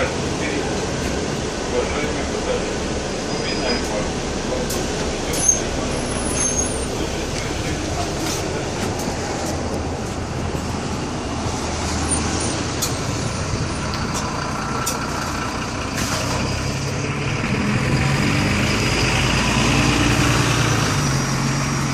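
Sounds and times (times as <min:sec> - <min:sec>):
bus diesel engine running: 0:00.0 - 0:21.9.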